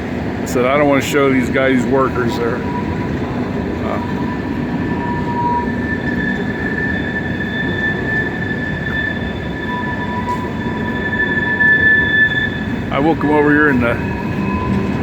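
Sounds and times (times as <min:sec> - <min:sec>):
low rolling rumble: 0:00.0 - 0:15.0
train wheels squealing on rails: 0:00.0 - 0:15.0.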